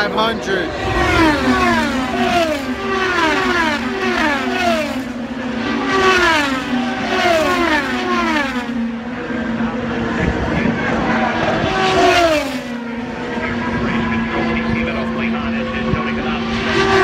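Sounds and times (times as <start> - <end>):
race car engines screaming past: 0.0 - 17.0.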